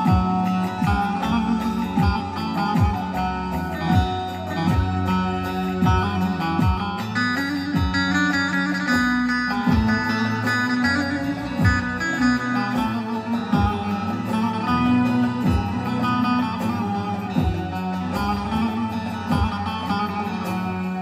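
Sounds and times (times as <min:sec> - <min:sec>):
keyboard accompaniment: 0:00.0 - 0:21.0
plucked lute melody: 0:00.0 - 0:21.0.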